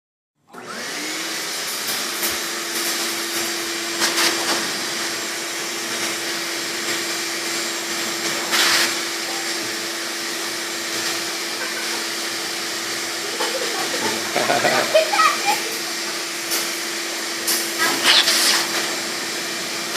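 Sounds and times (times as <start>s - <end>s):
shop vacuum blowing air: 0.5s - 19.9s.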